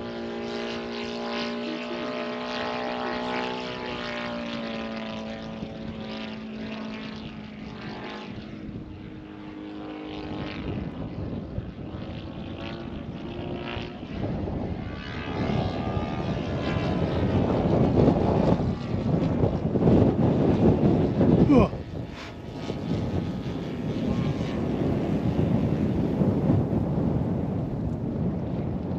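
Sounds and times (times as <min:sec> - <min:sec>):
model airplane engine: 0:00.0 - 0:28.9.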